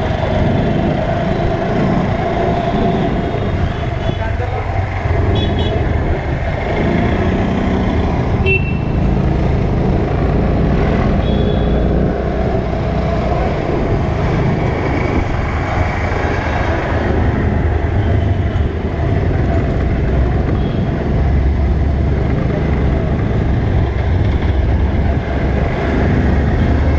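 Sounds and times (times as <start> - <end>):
road and wind noise: 0.0 - 26.9
surrounding traffic: 0.0 - 26.9.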